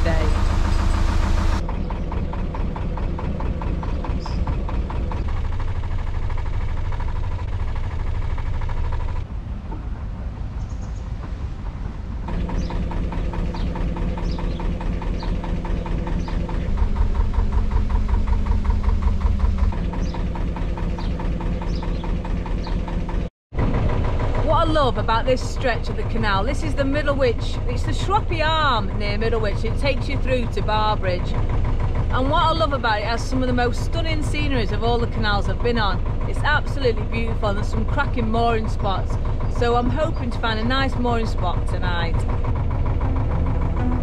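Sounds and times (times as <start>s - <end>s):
boat engine chugging: 0.0s - 44.0s.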